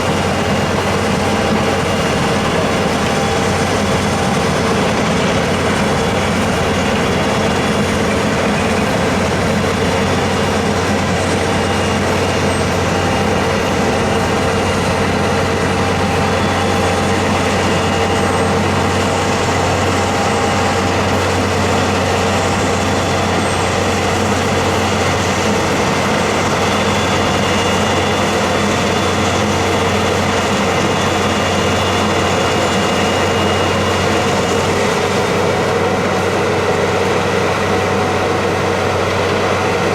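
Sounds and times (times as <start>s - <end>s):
heavy vehicle engine humming: 0.0s - 39.9s.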